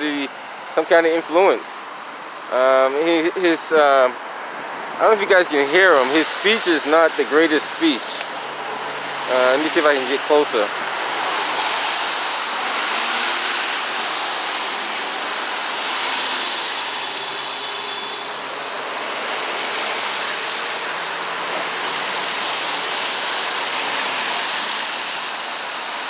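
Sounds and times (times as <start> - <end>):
highway traffic roar: 0.0 - 26.0.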